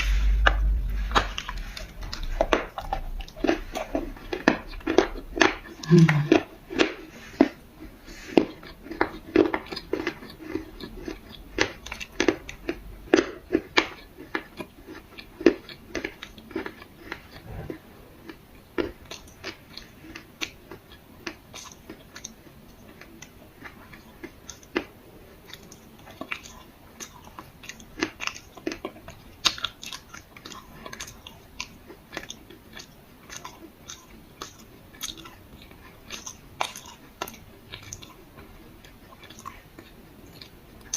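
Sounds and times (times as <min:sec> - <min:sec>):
person chewing crunchy clay: 0:00.0 - 0:40.9.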